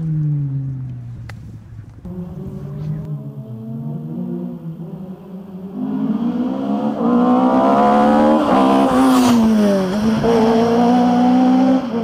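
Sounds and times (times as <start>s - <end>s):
rally car engine revving hard: 2.1s - 12.0s.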